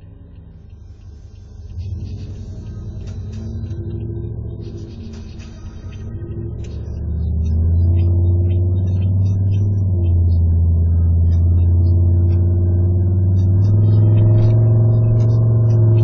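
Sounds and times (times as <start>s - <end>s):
car engine droning in cabin: 0.0s - 16.0s.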